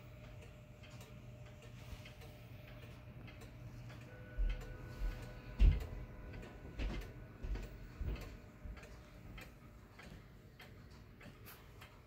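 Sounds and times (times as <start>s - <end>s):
pendulum clock ticking: 0.0s - 12.0s.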